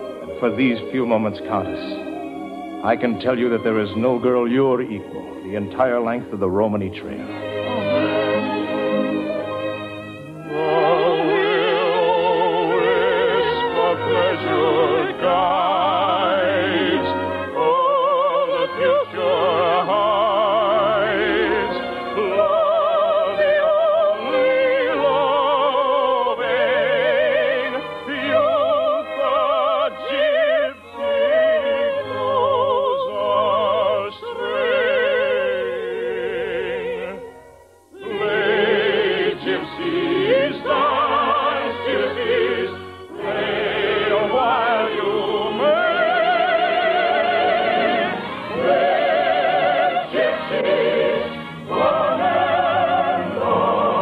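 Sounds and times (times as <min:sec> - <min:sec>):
operetta orchestra music: 0:00.0 - 0:54.0.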